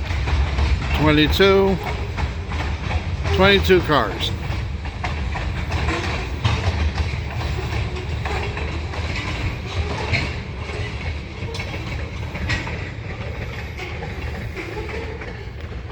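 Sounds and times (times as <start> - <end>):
freight train wheels rumbling: 0.0 - 15.9
wheels clacking over rail joints: 0.0 - 15.9.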